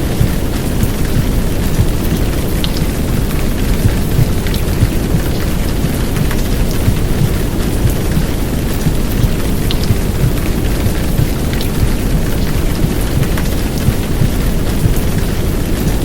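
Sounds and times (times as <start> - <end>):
heavy rain downpour: 0.0 - 16.0
low womb-sound rumble: 0.1 - 15.1.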